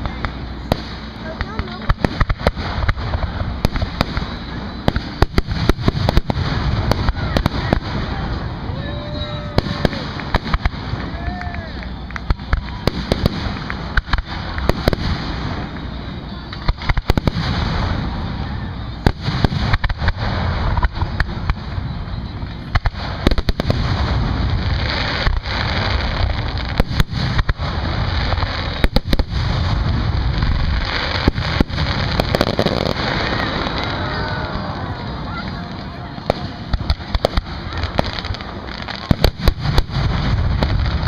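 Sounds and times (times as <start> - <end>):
continuous noisy background: 0.0 - 41.0
fireworks bangs: 0.0 - 41.0.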